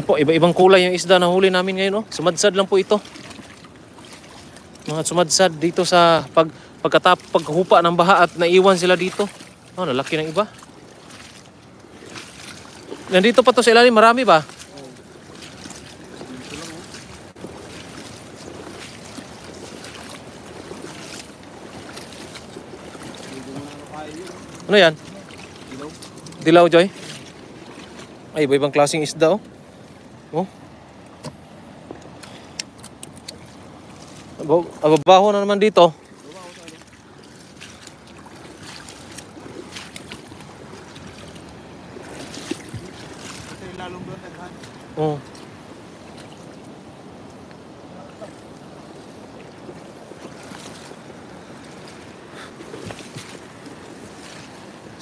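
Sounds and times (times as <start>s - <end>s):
boots splashing through water: 0.0s - 55.0s.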